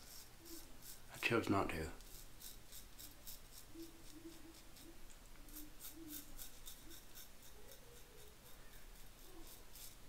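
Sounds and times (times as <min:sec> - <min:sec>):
razor scraping stubble: 0:00.0 - 0:10.0.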